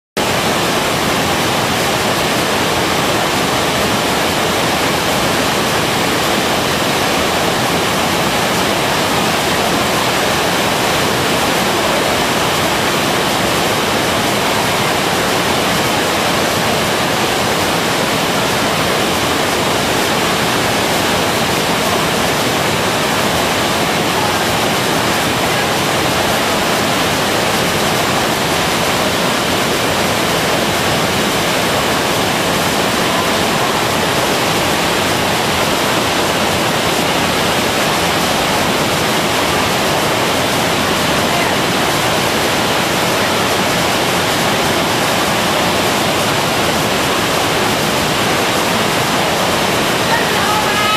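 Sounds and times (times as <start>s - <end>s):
waterfall rushing: 0.2s - 50.9s.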